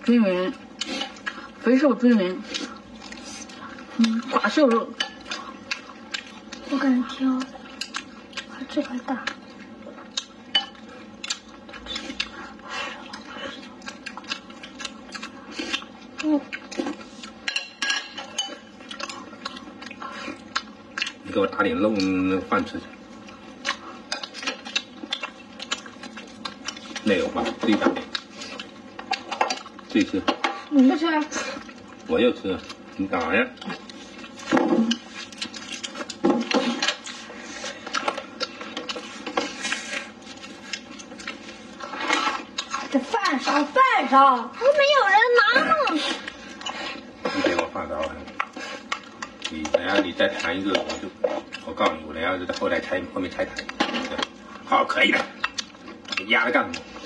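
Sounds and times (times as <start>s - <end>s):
person chewing with wet smacks: 0.5s - 17.5s, 18.2s - 43.8s, 44.5s - 57.0s.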